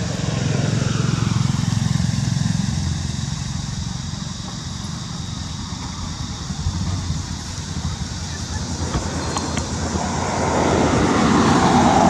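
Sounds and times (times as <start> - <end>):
vehicle engine passing by: 0.0 - 4.5, 5.1 - 12.0.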